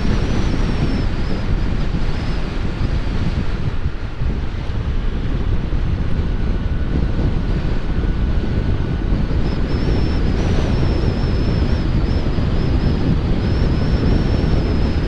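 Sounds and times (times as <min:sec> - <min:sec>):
faint wavering high whine: 0:00.0 - 0:15.0
wind buffeting a microphone: 0:00.0 - 0:15.0.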